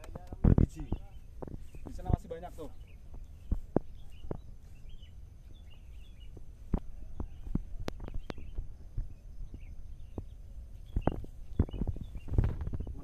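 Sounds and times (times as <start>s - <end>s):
footsteps through grass: 0.4s - 13.0s
faint bird chirps: 0.6s - 13.0s.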